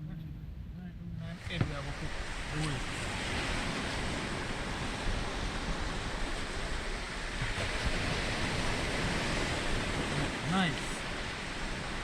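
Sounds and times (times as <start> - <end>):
ocean surf breaking: 1.2 - 12.0.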